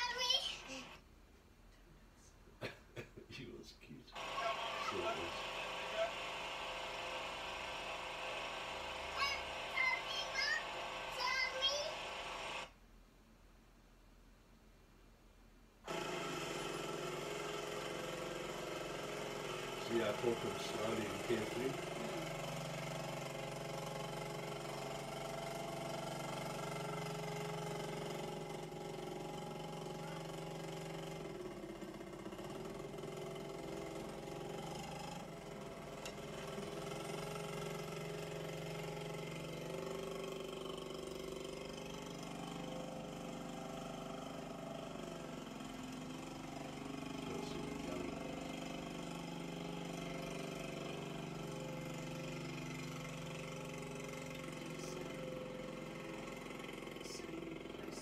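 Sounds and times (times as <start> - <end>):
small atv engines running: 0.0 - 1.0, 4.1 - 12.7, 15.9 - 58.0.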